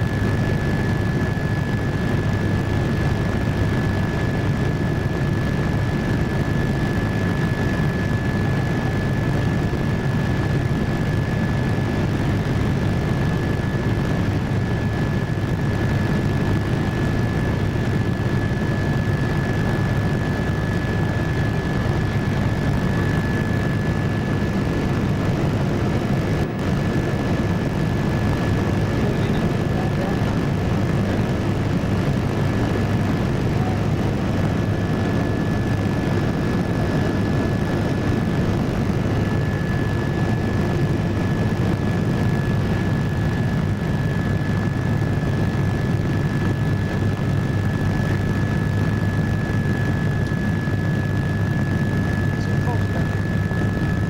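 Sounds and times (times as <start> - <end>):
helicopter engine and rotor rumble: 0.0 - 54.0.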